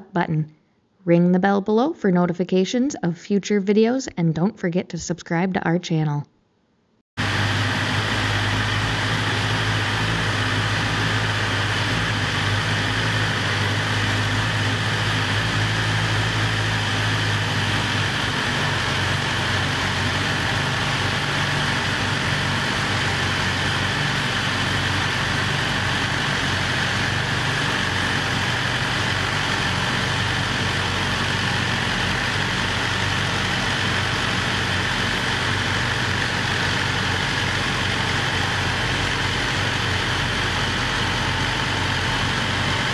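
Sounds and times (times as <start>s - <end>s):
motorcycle engine idling: 7.2s - 42.9s.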